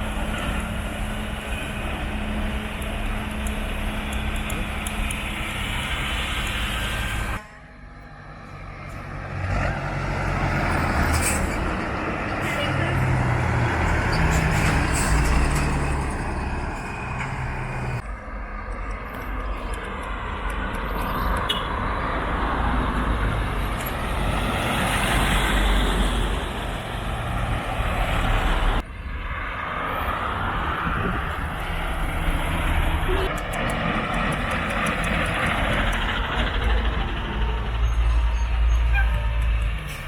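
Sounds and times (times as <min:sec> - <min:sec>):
heavy trucks passing: 0:00.0 - 0:40.0
road noise: 0:00.0 - 0:40.0.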